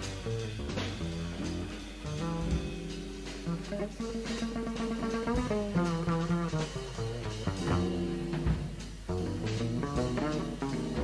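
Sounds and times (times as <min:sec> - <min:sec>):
jazz guitar music: 0:00.0 - 0:11.0.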